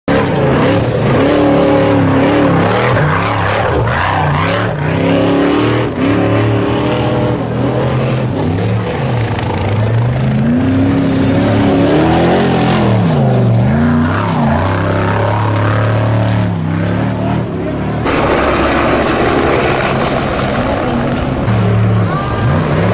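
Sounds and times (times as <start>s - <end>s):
truck engines revving: 0.0s - 22.9s
race trucks passing at speed: 0.1s - 22.9s.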